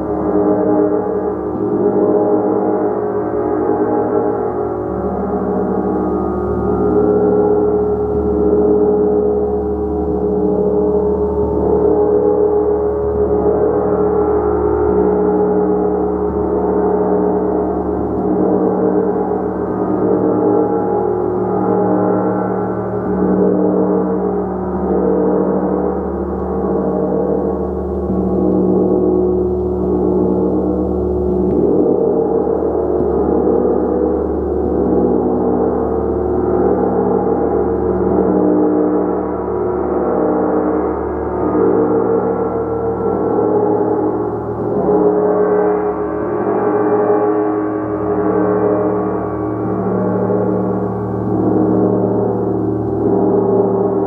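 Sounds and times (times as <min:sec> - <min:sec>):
gong played continuously: 0:00.0 - 0:54.0.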